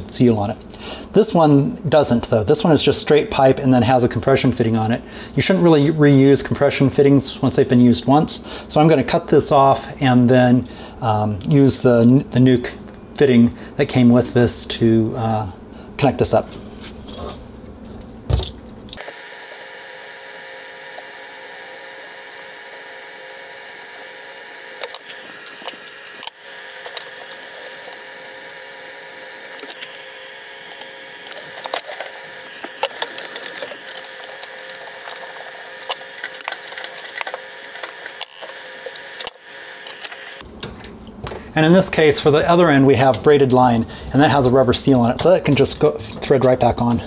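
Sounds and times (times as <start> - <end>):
steady hum: 7.0 - 47.0.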